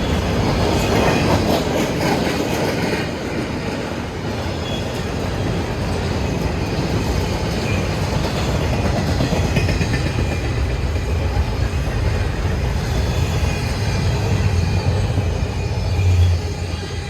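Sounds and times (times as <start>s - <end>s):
train cars rumbling past: 0.0s - 17.0s.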